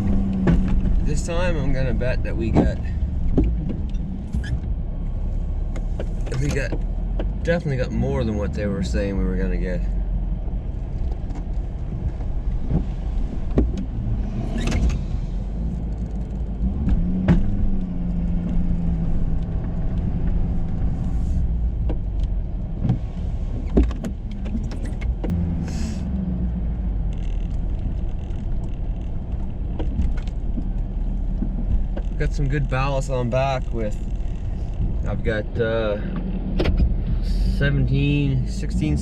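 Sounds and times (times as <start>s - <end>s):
truck engine rumbling: 0.0s - 39.0s.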